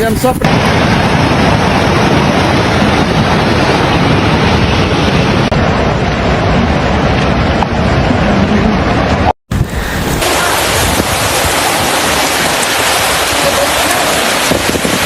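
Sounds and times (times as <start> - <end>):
storm wind on microphone: 0.0 - 15.0.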